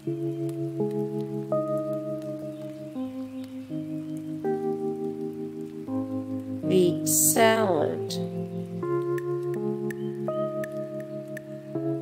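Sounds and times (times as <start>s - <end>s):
sustained music chords: 0.0s - 12.0s.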